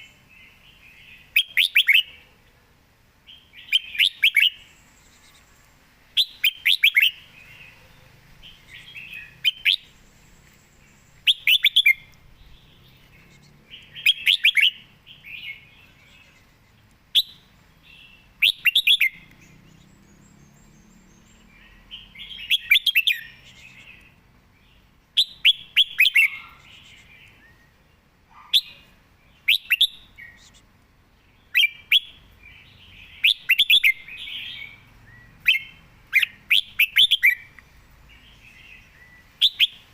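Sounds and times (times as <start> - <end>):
bird singing chirping phrases: 0.0 - 2.3, 3.2 - 39.9.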